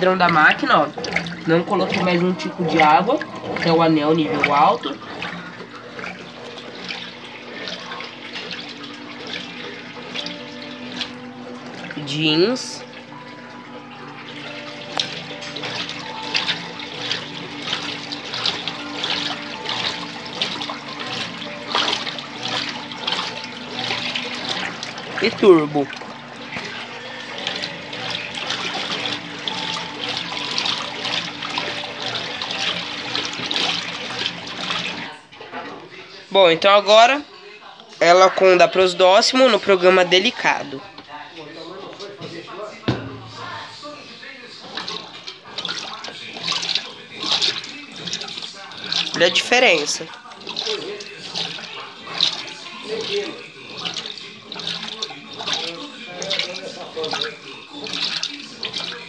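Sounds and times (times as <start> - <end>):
washing machine water sloshing: 0.0 - 59.0.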